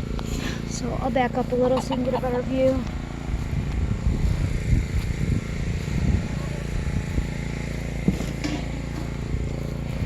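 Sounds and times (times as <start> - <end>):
generator engine humming: 0.0 - 10.0.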